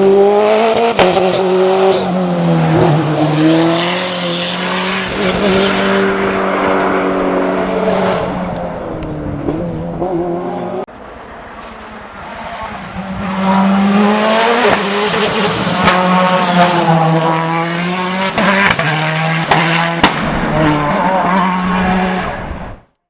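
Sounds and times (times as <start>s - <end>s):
race car engine at high revs: 0.0s - 22.8s.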